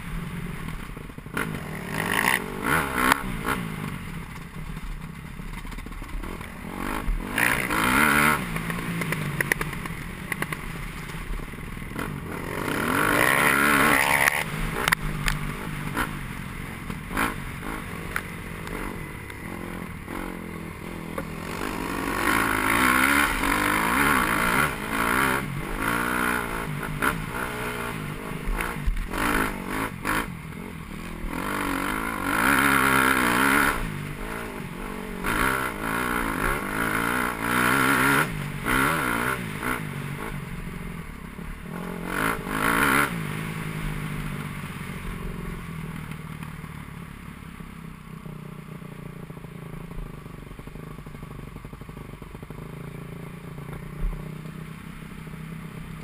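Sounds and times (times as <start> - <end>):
dirt bike engine revving: 0.0 - 5.0, 5.6 - 45.6.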